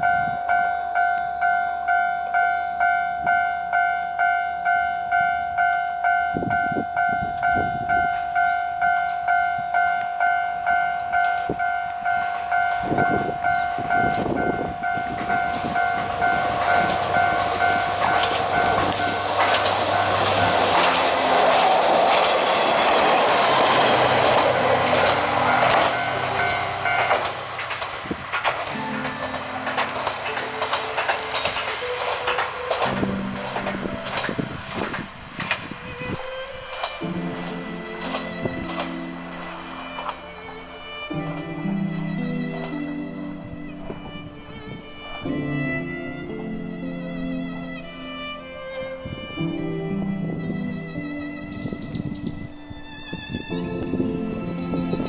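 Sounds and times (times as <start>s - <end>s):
diesel railcar passing: 0.0s - 55.0s
train wheels on rails: 0.0s - 55.0s.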